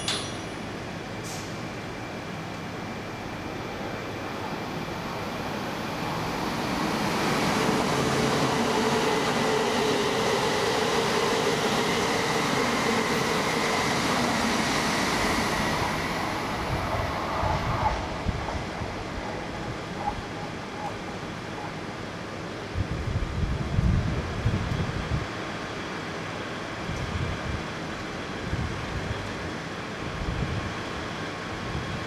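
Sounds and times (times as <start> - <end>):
high-speed train rushing past: 0.0 - 32.0.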